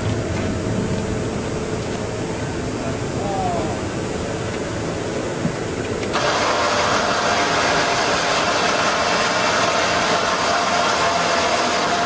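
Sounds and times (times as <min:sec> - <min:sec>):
car engine running with whine: 0:00.0 - 0:12.0.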